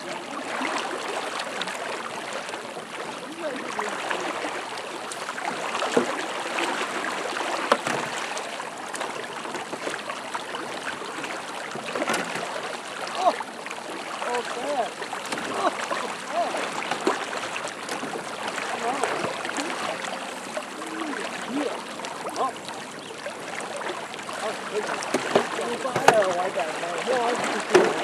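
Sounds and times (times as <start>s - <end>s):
rushing floodwater: 0.0s - 28.0s.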